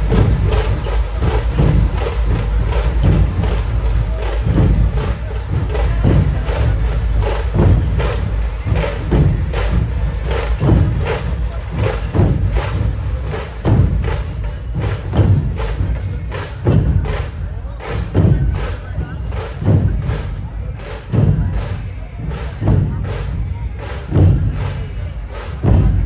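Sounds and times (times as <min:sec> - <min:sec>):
procession music with heavy bass beat: 0:00.0 - 0:26.0.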